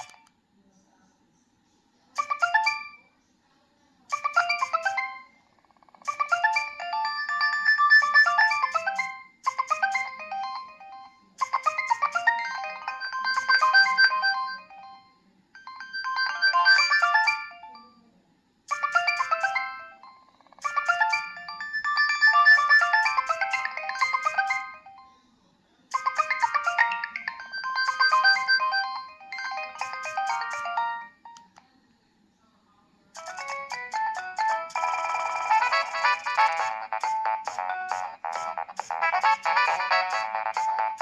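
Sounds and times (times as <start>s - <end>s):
phone ringtone melody: 0.0s - 0.2s, 2.2s - 3.0s, 4.1s - 5.4s, 6.0s - 18.0s, 18.7s - 25.2s, 25.9s - 31.5s, 33.2s - 41.0s.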